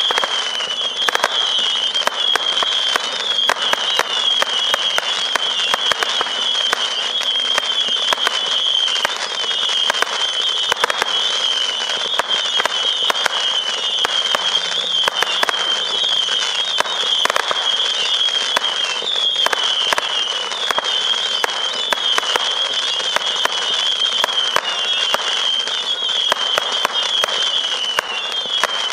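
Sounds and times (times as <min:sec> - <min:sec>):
firework crackle: 0:00.0 - 0:28.9
firework pops: 0:00.0 - 0:28.9
firework whistling tails: 0:00.0 - 0:28.9.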